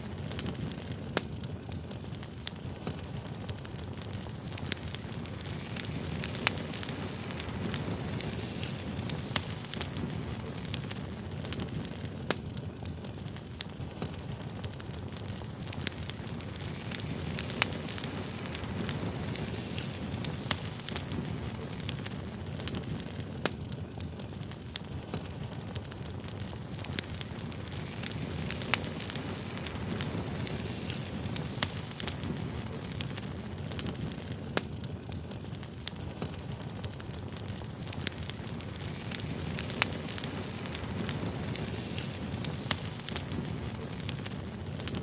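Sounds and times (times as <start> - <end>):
fire crackles and pops: 0.0 - 45.0
firewood flames rushing: 0.0 - 45.0.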